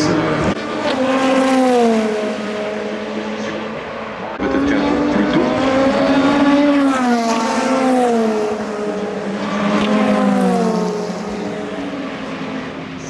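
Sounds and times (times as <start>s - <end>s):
race cars passing at speed: 0.0s - 13.0s.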